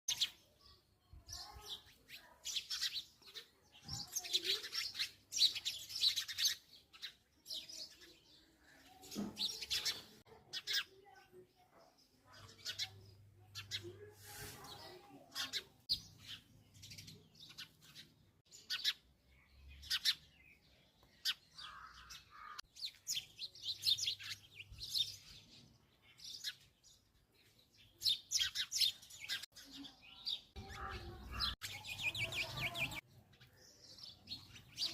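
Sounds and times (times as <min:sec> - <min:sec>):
sparrows chirping: 0:00.1 - 0:34.9.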